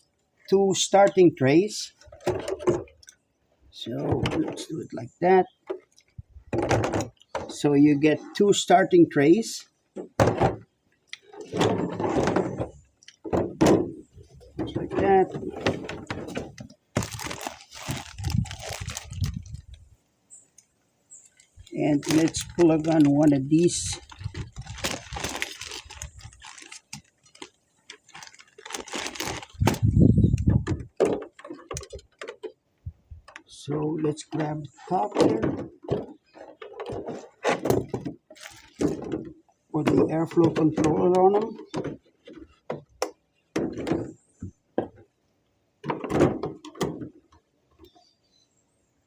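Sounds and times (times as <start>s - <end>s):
plastic parts clicking and rattling: 1.9s - 3.2s, 3.9s - 5.0s, 5.6s - 7.8s, 10.0s - 19.9s, 20.6s - 32.6s, 33.2s - 45.1s, 45.8s - 47.9s.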